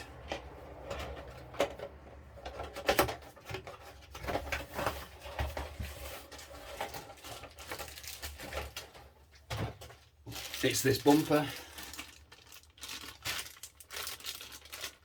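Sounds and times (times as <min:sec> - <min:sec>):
plastic parts clicking and rustling: 0:00.0 - 0:15.0.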